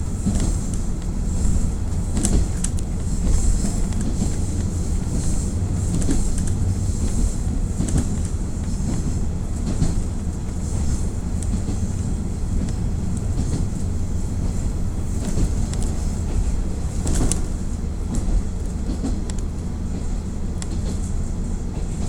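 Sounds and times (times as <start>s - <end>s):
diesel engine rumble: 0.0s - 22.0s
wheels clicking over rails: 0.1s - 22.0s.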